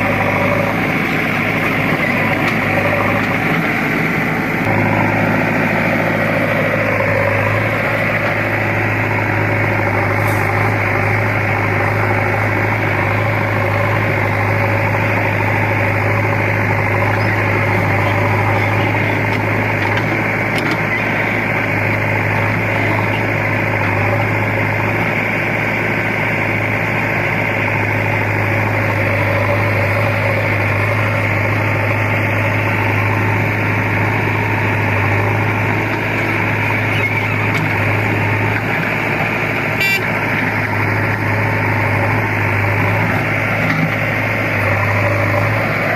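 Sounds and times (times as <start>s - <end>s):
diesel engine running steadily: 0.0s - 45.9s.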